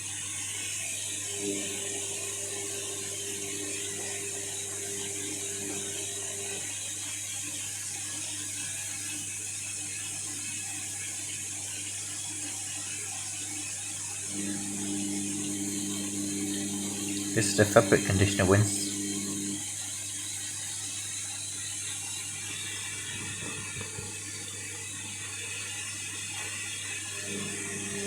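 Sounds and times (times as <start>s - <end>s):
washing machine whirring: 0.0s - 28.0s.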